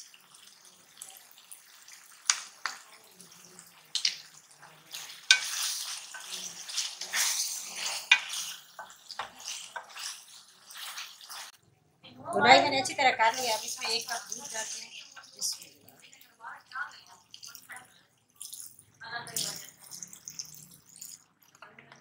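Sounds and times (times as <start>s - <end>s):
food sizzling: 0.0s - 11.6s, 12.3s - 21.9s.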